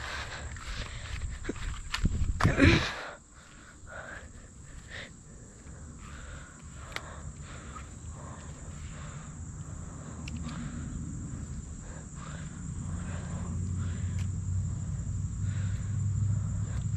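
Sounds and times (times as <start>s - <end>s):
insects chirring: 0.0s - 16.9s.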